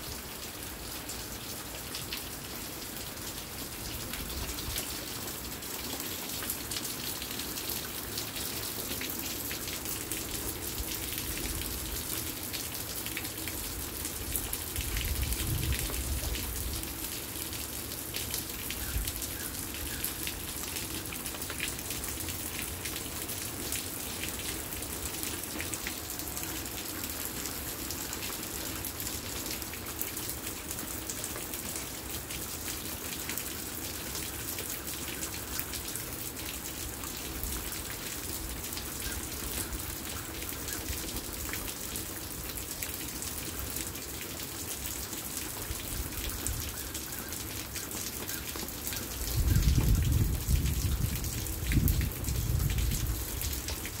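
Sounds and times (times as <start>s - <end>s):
rain pattering on patio: 0.0s - 54.0s.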